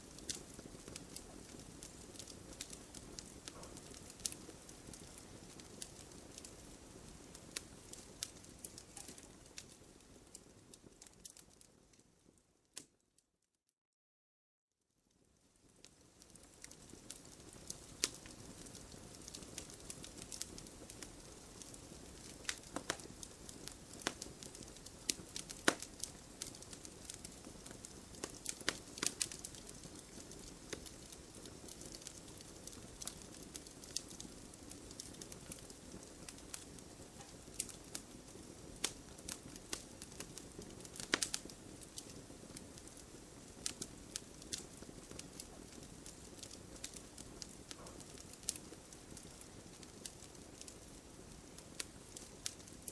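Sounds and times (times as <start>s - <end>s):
campfire crackling and popping: 0.0s - 13.0s, 15.2s - 52.9s.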